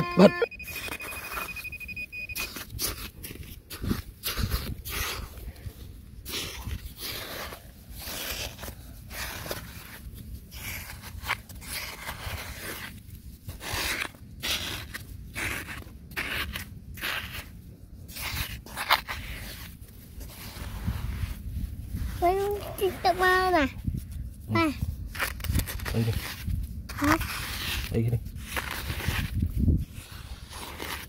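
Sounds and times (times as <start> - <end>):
hand scraping loose soil: 0.5 - 31.0.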